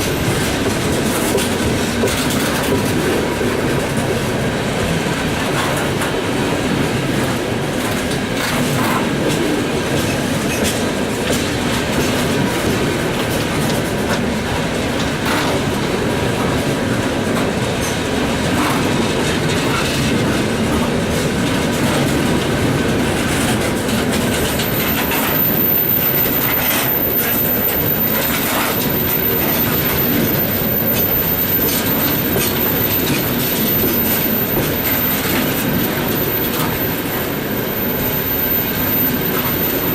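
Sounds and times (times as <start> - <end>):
train rumble: 0.0 - 39.9
train wheels clacking over rail joints: 0.0 - 39.9.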